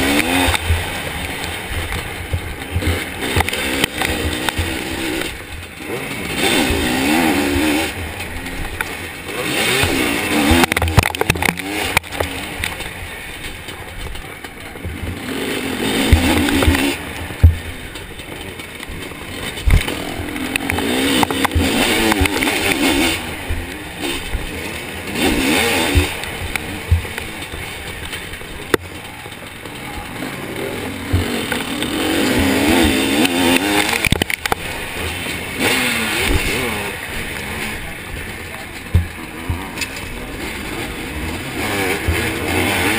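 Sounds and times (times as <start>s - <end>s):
sharp knocks from bumps: 0.0s - 42.9s
two-stroke engine revving: 0.0s - 42.9s.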